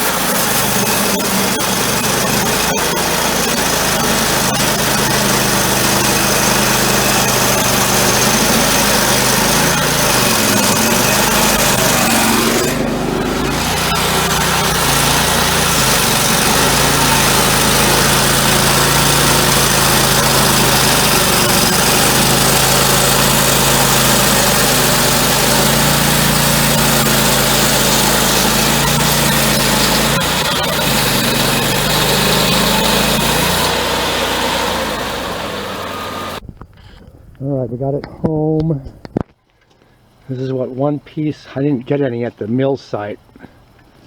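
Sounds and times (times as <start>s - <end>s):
saw rasping through log: 0.0s - 36.4s
sawmill engine running: 0.0s - 36.4s.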